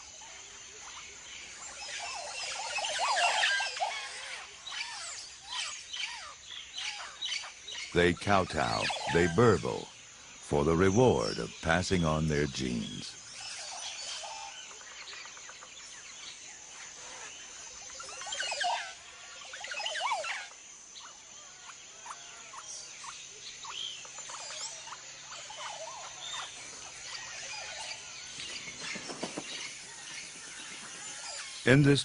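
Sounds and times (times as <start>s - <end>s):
birds giving gurgling songs: 0.0s - 32.0s
other birds calling: 0.0s - 32.0s.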